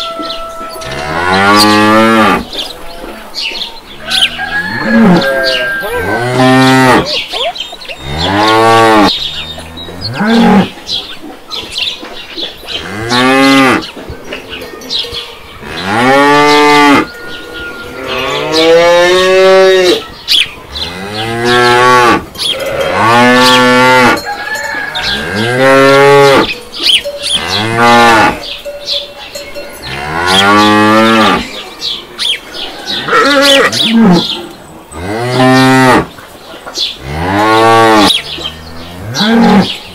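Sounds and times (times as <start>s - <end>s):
cows mooing: 0.0s - 10.8s, 12.7s - 14.0s, 15.0s - 36.2s, 37.0s - 39.9s.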